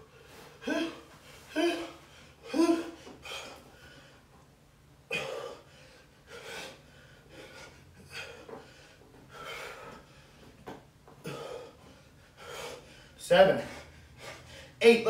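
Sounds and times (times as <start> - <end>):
man breathing hard: 0.0 - 4.4, 5.0 - 14.8.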